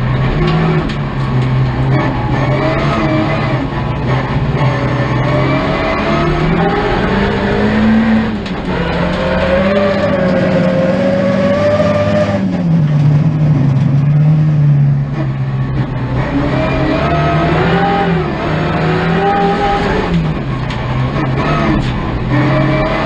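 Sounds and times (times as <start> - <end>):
car engine under load: 0.0 - 23.0.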